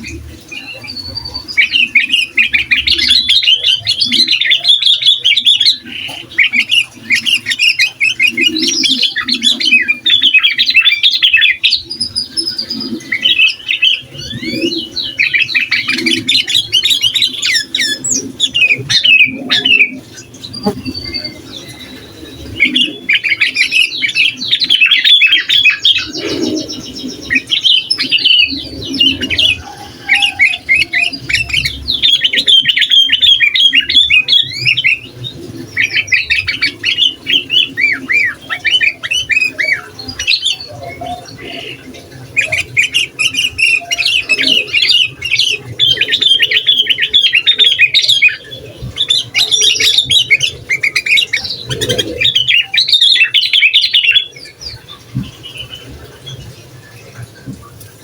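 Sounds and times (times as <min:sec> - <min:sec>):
bird chirping song: 0:00.0 - 0:58.0.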